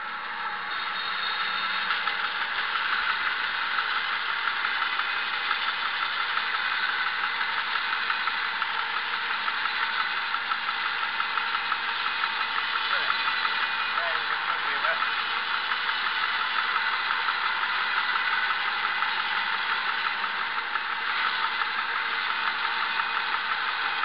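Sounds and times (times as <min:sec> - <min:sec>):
bandsaw mill engine running: 0:00.0 - 0:24.0.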